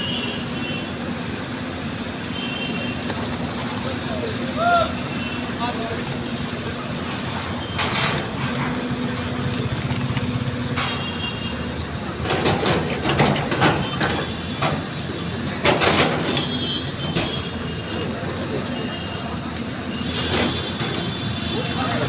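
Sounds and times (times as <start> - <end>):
excavator diesel engine running: 0.0 - 22.0
harsh bursts of work noise: 0.0 - 22.0.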